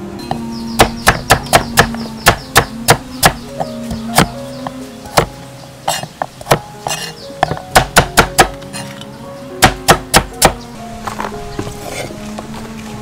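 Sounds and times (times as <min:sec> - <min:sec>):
background music: 0:00.0 - 0:13.0
cleaver chopping on wooden board: 0:00.3 - 0:08.9, 0:09.6 - 0:11.7.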